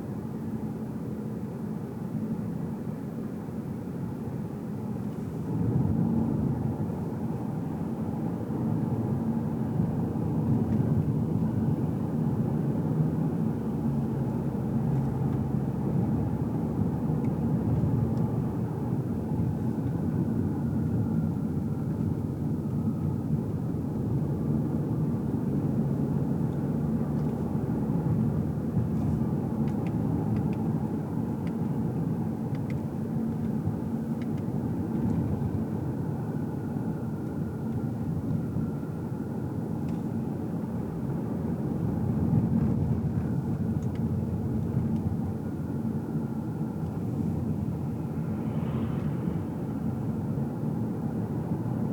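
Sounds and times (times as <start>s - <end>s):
engine hum: 0.0s - 51.9s
tyre road rumble: 4.8s - 51.9s
faint whine: 9.5s - 51.9s.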